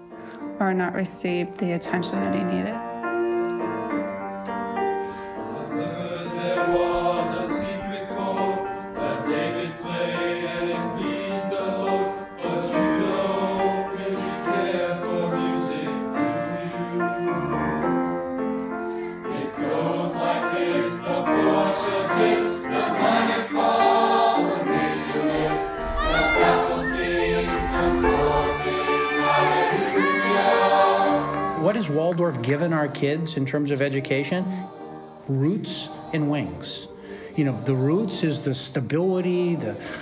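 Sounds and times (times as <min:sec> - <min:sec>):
choir singing: 0:02.4 - 0:40.0.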